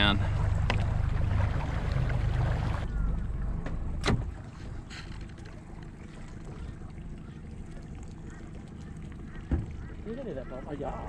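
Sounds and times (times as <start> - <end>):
low rumble: 0.0 - 9.8.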